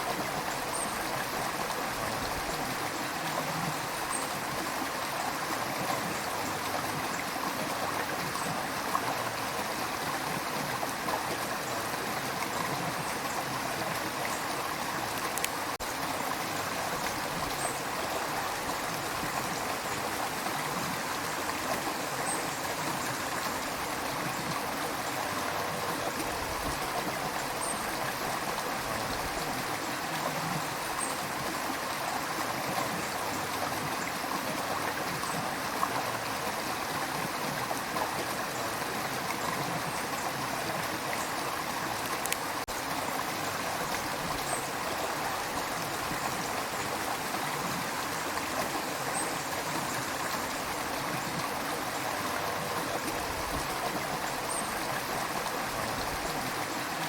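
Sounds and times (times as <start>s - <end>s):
river flowing over stones: 0.0s - 57.0s.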